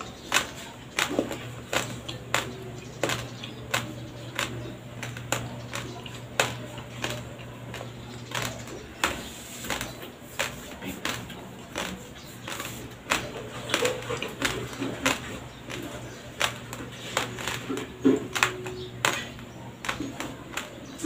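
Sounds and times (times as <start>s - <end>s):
crunchy chewing of rice: 0.0s - 21.0s.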